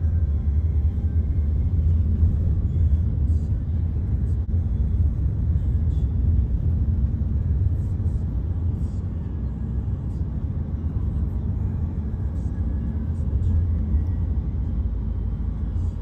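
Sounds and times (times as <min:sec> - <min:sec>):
road and engine rumble inside car: 0:00.0 - 0:16.0.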